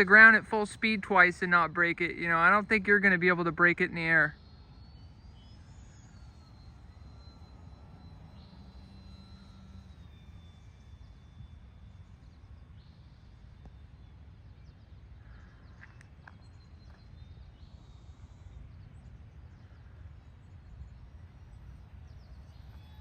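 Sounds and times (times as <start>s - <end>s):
distant model plane motor whine: 0.0s - 23.0s.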